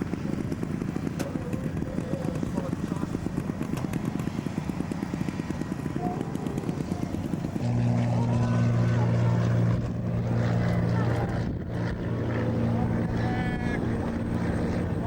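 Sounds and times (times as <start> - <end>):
propeller airliner engines droning: 0.0 - 15.0.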